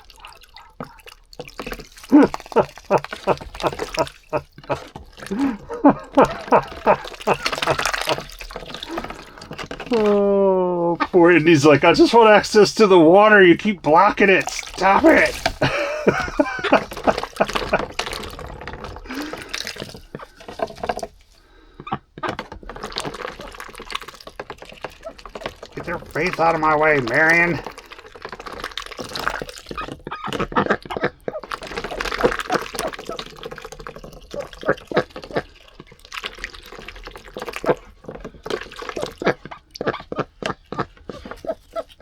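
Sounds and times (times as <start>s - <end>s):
ducks dabbling in water: 0.0s - 42.0s.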